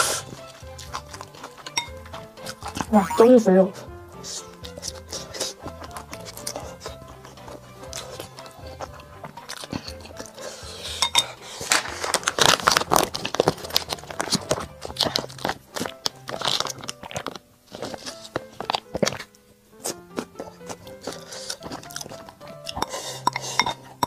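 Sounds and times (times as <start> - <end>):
chewing and crunching: 0.0 - 2.9, 4.2 - 24.0
background music: 0.0 - 24.0.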